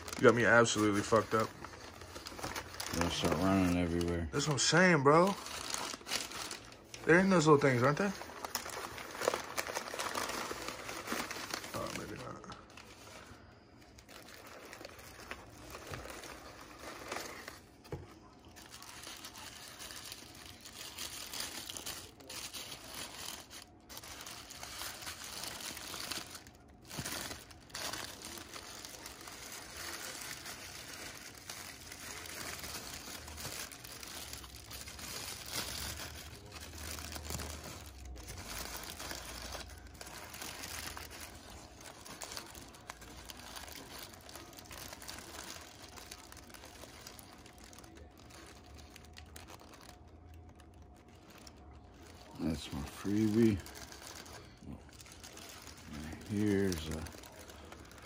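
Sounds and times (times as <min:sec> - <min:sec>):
paper crinkling and rustling: 0:00.0 - 0:58.0.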